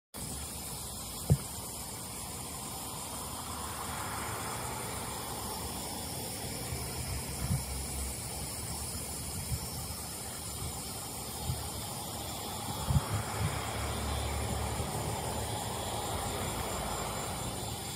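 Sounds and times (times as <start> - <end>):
outdoor background hiss: 0.2 - 17.9.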